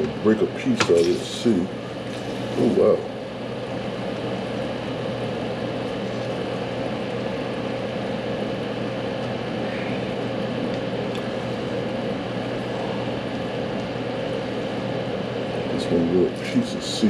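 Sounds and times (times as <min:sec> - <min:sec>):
electric fan hum: 0:00.0 - 0:17.0.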